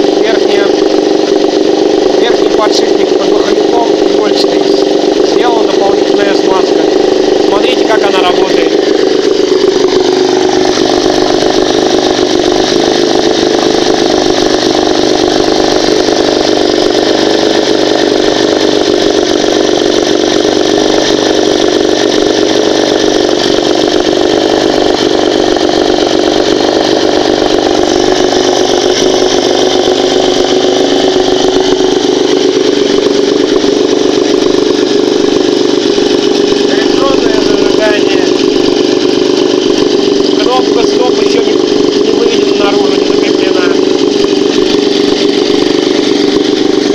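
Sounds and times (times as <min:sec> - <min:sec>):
outboard motor running: 0:00.0 - 0:46.9.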